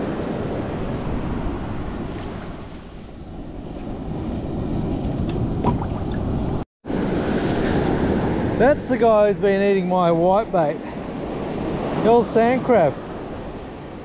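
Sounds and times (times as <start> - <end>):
surf on beach: 0.0 - 14.0
wind rumbling on microphone: 0.0 - 14.0.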